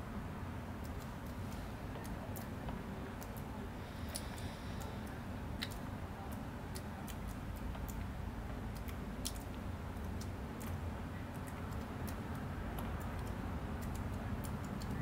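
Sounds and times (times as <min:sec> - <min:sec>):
faint irregular clicks: 0:00.7 - 0:15.0.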